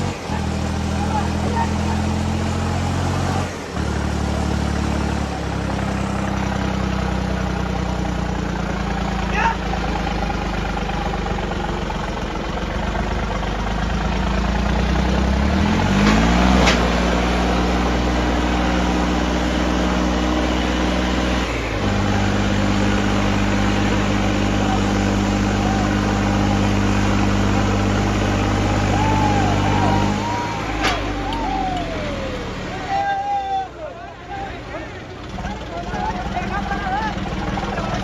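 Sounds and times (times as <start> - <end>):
tractor diesel engines: 0.0 - 38.0.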